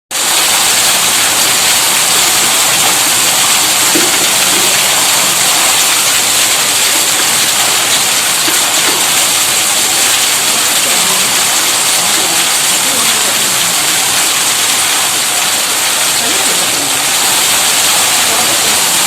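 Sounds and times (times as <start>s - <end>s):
water gushing from pump: 0.1s - 19.0s.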